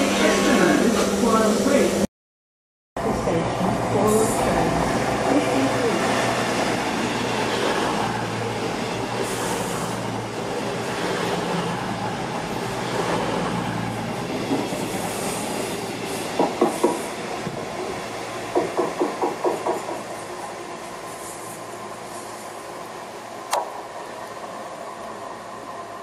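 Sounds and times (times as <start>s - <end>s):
diesel train engines: 3.0s - 26.0s.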